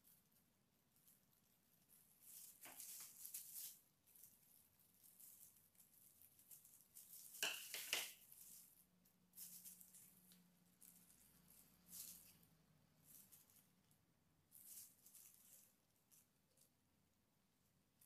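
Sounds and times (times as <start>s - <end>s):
plastic gloves rustling: 0.0s - 17.0s.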